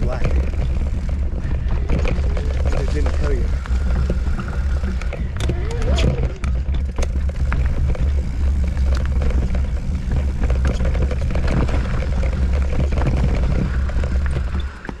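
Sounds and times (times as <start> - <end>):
mountain bike rattling: 0.0 - 15.0
wind rumbling on microphone: 0.0 - 15.0.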